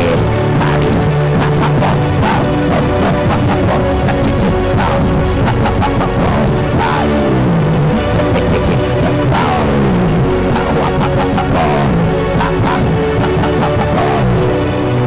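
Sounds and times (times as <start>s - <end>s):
dramatic music with sliding tones: 0.0s - 15.0s.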